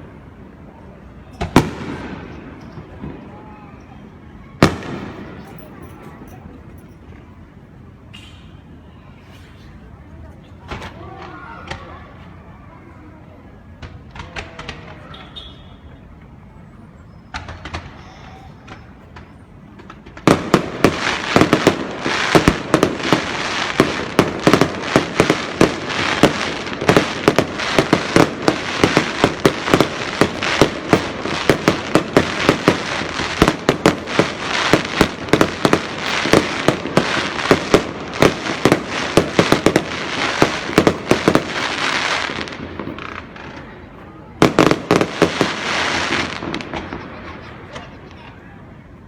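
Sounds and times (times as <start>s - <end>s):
fireworks bangs and crackles: 0.0s - 7.4s, 10.2s - 12.6s, 13.5s - 16.4s, 17.0s - 49.0s.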